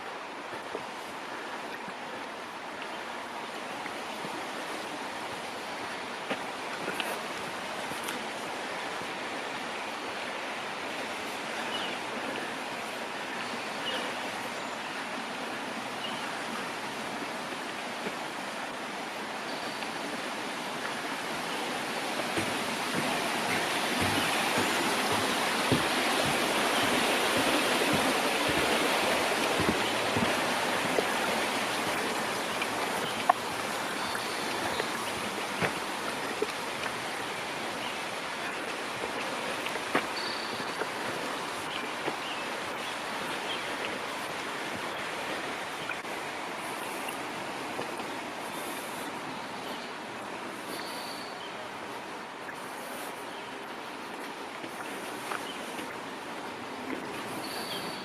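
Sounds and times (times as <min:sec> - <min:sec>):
rushing stream: 0:00.0 - 0:58.0.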